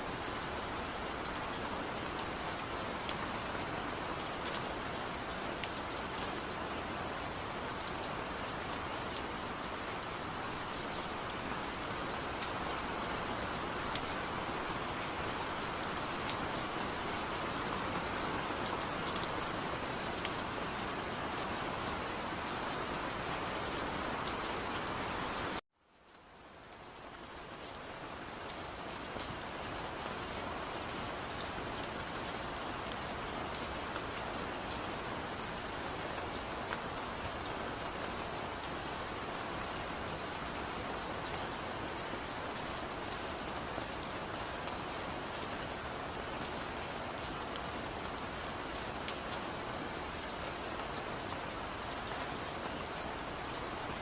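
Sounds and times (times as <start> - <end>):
steady rain on a surface: 0.0 - 54.0.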